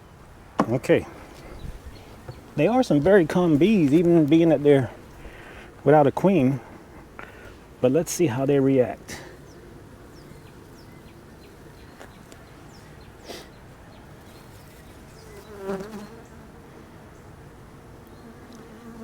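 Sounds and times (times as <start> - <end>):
honeybees humming: 0.7 - 19.0.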